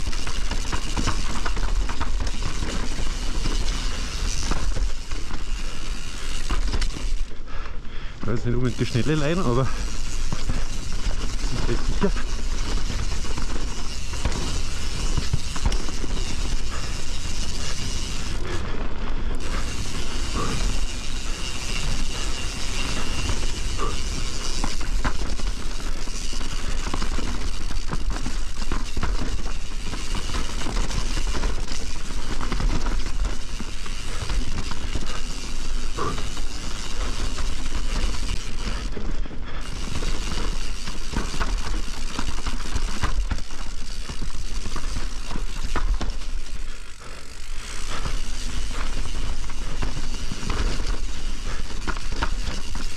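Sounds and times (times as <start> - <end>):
tyres rolling over dirt: 0.0 - 7.4, 8.2 - 52.9
bike chain and parts clattering: 0.0 - 52.9.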